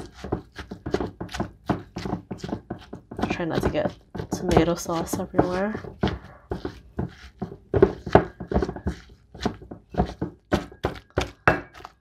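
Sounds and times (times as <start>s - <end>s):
wooden pestle pounding in metal bowl: 0.0s - 12.0s.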